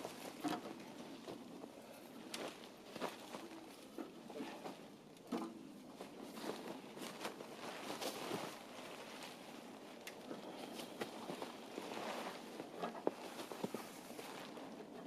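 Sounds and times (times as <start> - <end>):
camping gear knocking and clicking: 0.0 - 15.0
person moving on ground: 0.0 - 15.0.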